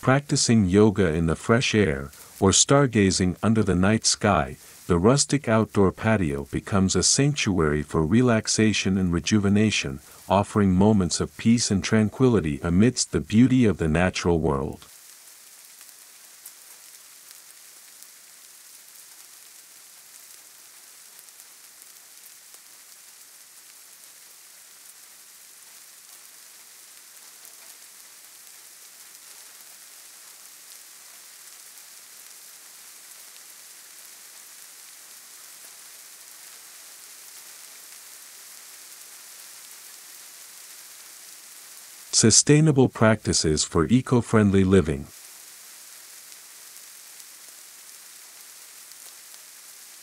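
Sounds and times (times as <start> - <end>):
steady soft hiss: 0.0 - 50.0.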